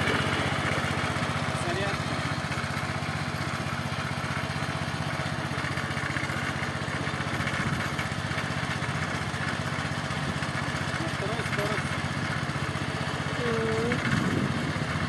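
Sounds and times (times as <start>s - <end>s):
cultivator engine running: 0.0s - 15.0s.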